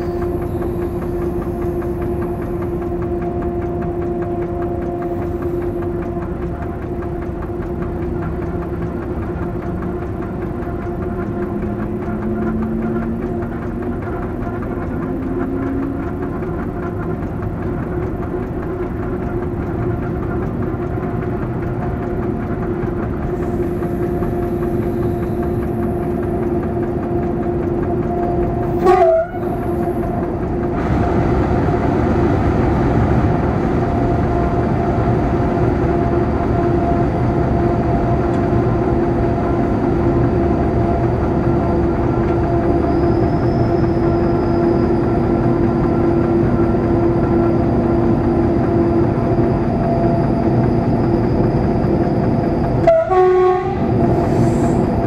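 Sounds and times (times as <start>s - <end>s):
locomotive engine drone: 0.0s - 55.0s.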